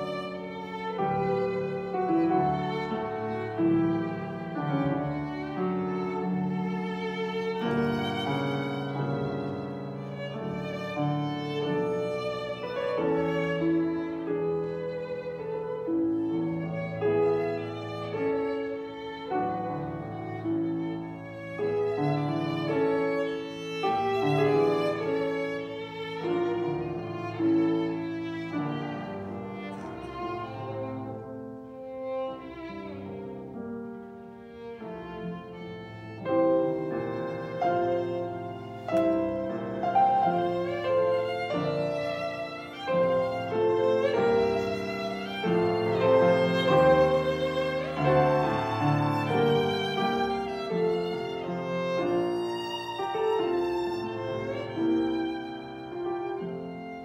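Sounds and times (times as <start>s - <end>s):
piano accompaniment: 0.0s - 57.0s
violin playing: 0.0s - 57.0s.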